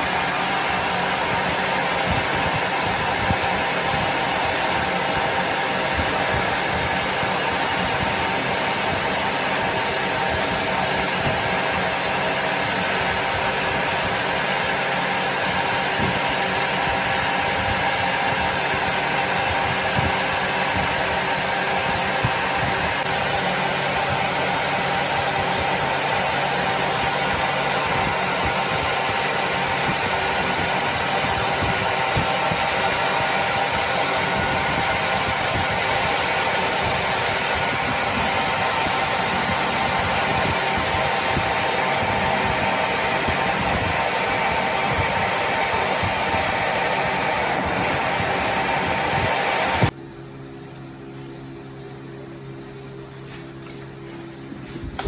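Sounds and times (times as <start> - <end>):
machine humming with steady tones: 0.0 - 55.0.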